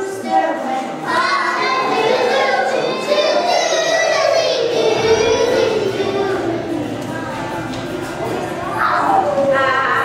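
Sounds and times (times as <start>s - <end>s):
children singing together: 0.0s - 10.0s.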